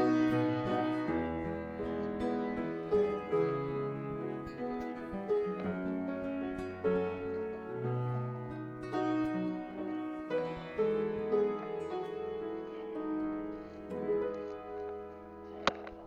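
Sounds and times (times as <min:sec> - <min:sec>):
piano music with held notes: 0:00.0 - 0:16.0.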